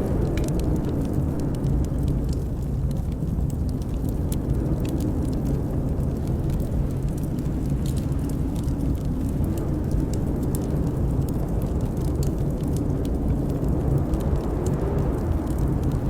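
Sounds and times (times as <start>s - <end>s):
fire popping: 0.0s - 16.0s
howling blizzard wind: 0.0s - 16.0s
wood fire crackling: 0.0s - 16.0s.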